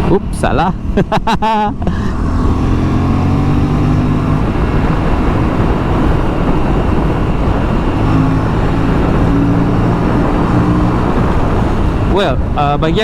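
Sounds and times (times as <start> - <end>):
motorcycle engine cruising: 0.0 - 13.0
wind rush on microphone: 0.0 - 13.0.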